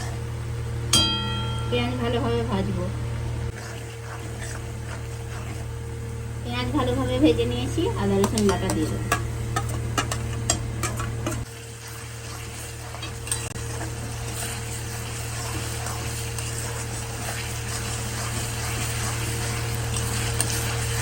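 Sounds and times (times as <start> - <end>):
onions sizzling in hot oil: 3.5 - 21.0.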